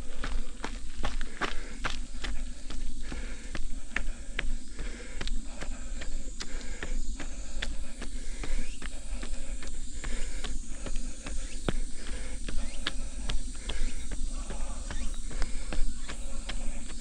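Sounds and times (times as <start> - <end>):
running footsteps on trail: 0.0 - 17.0.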